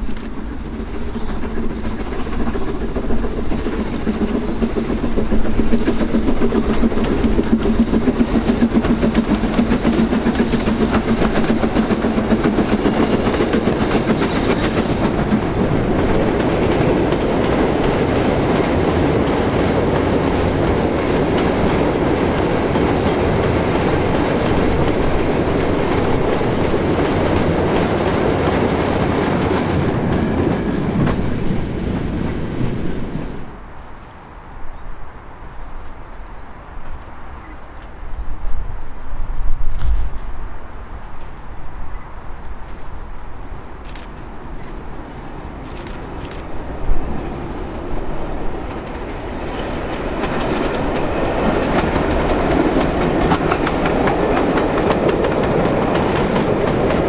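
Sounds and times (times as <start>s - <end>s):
train wheels clattering: 0.0s - 34.2s, 42.2s - 57.0s.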